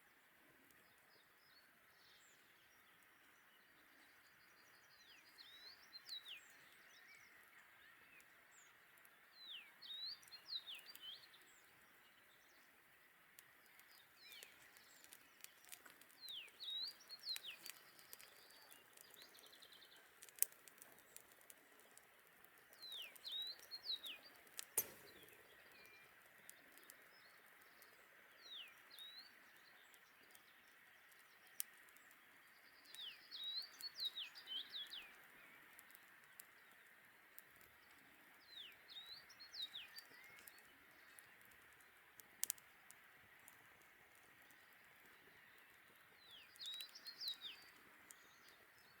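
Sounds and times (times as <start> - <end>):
faint steady hiss: 0.0 - 49.0
campfire crackling: 0.1 - 49.0
songbird singing: 0.1 - 49.0.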